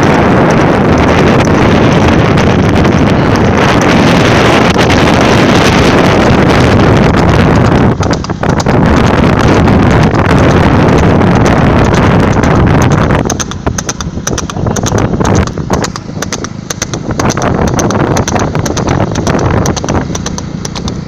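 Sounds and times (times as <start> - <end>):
horse hooves galloping: 0.0 - 21.0
wind noise on microphone: 0.0 - 21.0.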